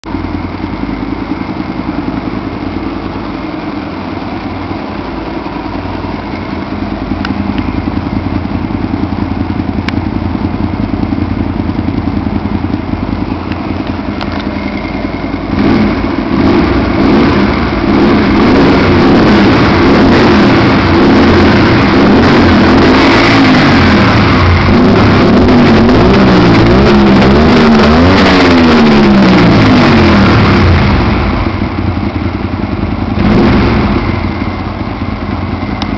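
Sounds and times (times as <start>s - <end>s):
motorcycle engine idling: 0.0s - 25.9s, 29.0s - 35.9s
motorcycle engine revving: 0.0s - 35.9s.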